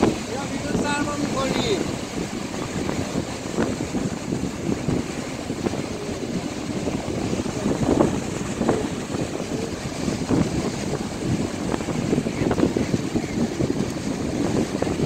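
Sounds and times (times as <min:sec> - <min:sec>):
sea surf breaking: 0:00.0 - 0:15.0
wind buffeting microphone: 0:00.0 - 0:15.0.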